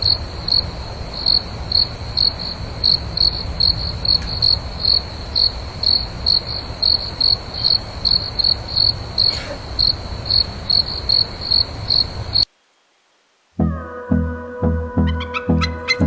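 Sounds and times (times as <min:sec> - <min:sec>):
insect chirping: 0:00.0 - 0:13.6.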